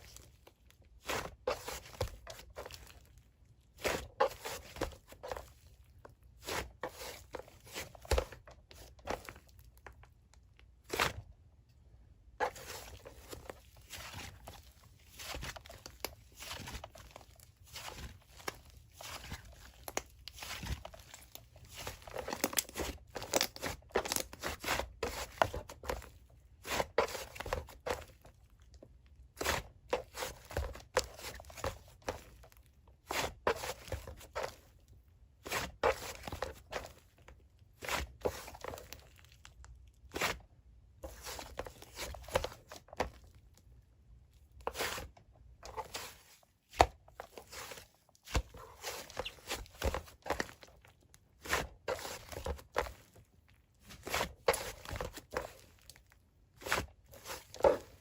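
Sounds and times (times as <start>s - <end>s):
squishy material crunching: 0.0s - 11.3s, 12.3s - 34.8s, 35.4s - 43.7s, 44.5s - 58.0s.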